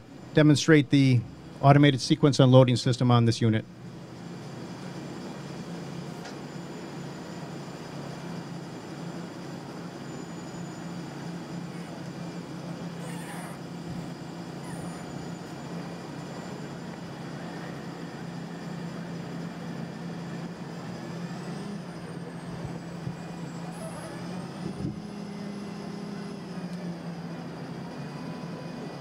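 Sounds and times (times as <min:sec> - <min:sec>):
faint high whine: 0:00.0 - 0:29.0
vacuum blower engine drone: 0:03.4 - 0:29.0.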